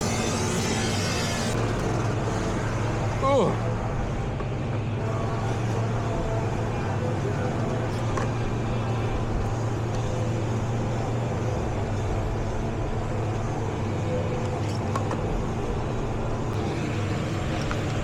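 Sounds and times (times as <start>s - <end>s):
low engine hum: 1.5s - 18.0s.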